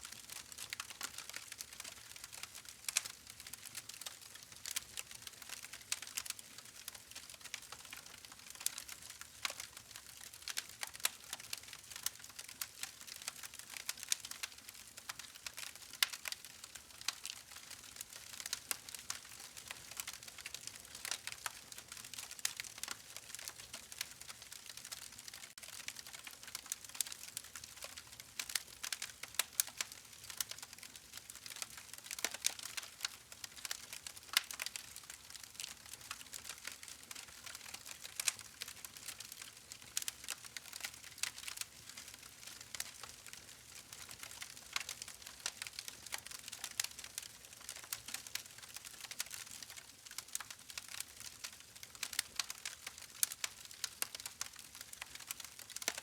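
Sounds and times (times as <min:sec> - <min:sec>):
burning wood crackling and popping: 0:00.2 - 0:56.0.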